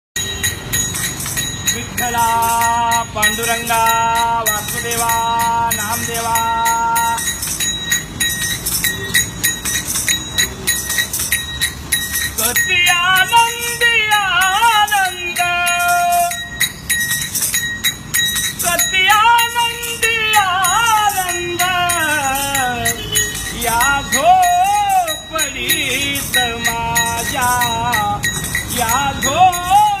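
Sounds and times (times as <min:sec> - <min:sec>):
jingling metal percussion: 0:00.2 - 0:30.0.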